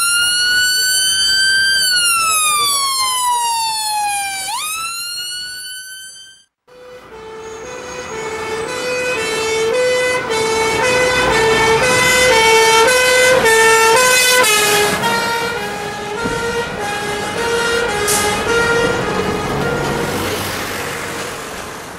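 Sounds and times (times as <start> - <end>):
two-tone siren: 0.0 - 20.6.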